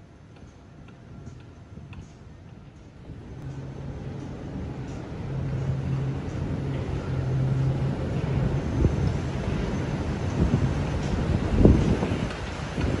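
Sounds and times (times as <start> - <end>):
boat engines humming: 0.0 - 13.0.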